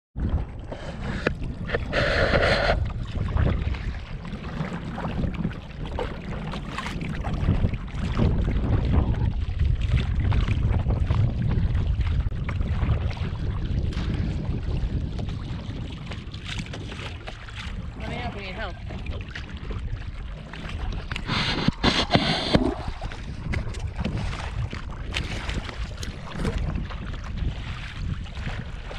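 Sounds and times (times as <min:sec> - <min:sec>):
water splashing against kayak: 0:00.2 - 0:28.9
wind buffeting microphone: 0:00.2 - 0:28.9.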